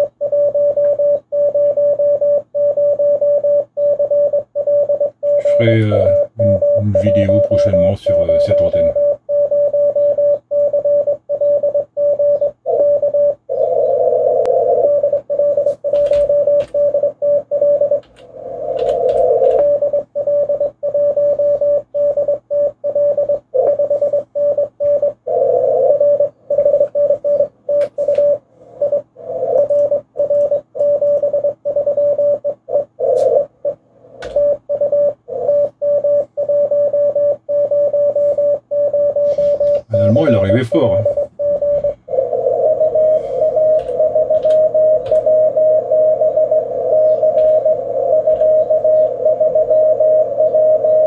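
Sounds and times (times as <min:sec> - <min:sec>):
faint hum and band noise: 0:00.0 - 0:51.0
morse code tones: 0:00.0 - 0:51.0.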